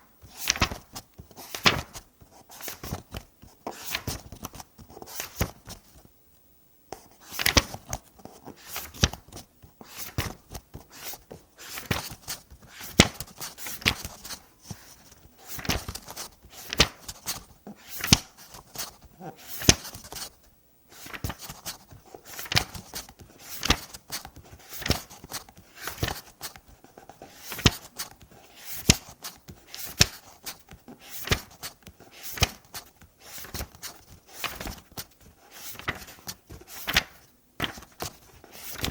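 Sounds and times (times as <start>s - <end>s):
book pages turning: 0.2s - 6.1s, 6.9s - 38.9s.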